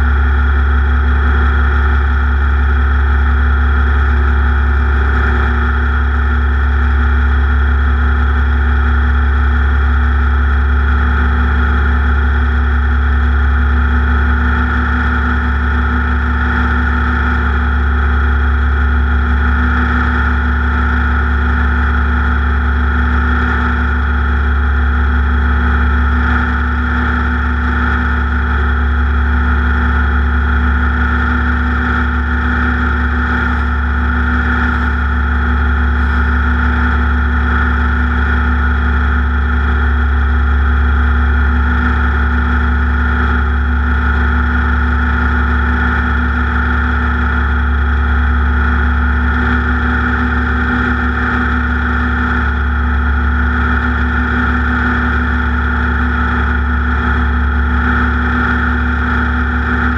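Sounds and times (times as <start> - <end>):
racing engine steady drone: 0.0 - 59.9.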